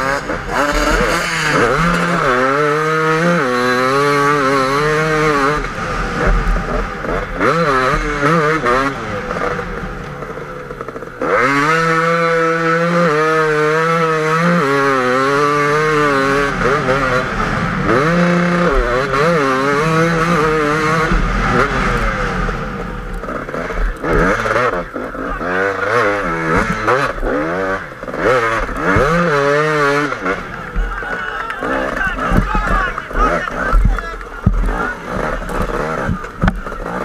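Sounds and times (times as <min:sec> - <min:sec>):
two-stroke motorcycle engine revving: 0:00.0 - 0:37.0.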